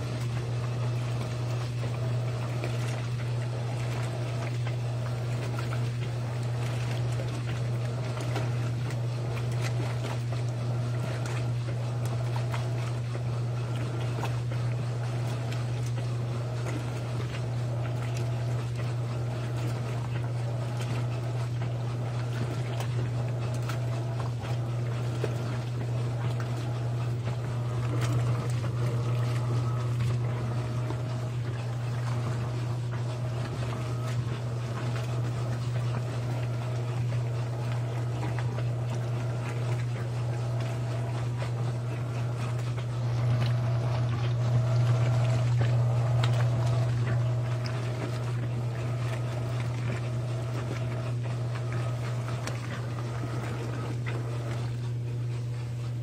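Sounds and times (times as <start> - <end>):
washing machine hum: 0.0 - 56.0
wet laundry swishing and sloshing: 0.0 - 56.0.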